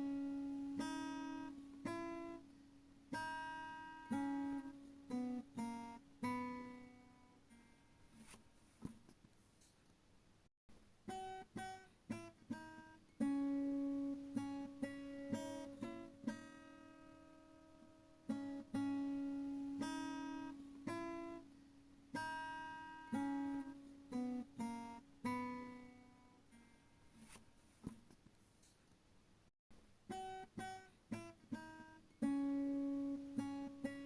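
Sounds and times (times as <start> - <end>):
acoustic guitar playing: 0.0 - 8.4, 11.1 - 27.4, 30.1 - 34.0.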